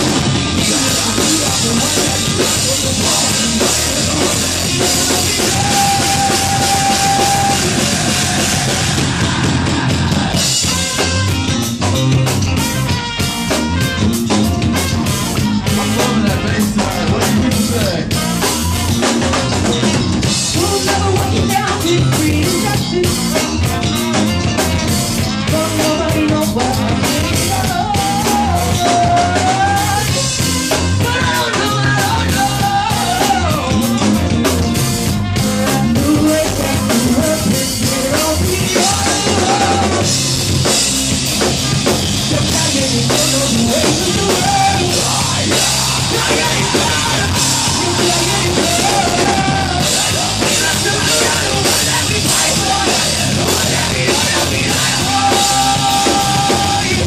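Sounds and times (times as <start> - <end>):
trumpet melody: 0.0 - 9.3, 10.3 - 57.0
live rock band playing: 0.0 - 57.0.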